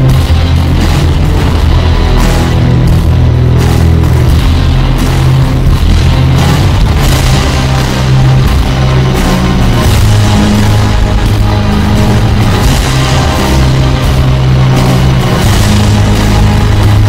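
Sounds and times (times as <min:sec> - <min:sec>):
heavy rock music with boosted bass: 0:00.0 - 0:17.0.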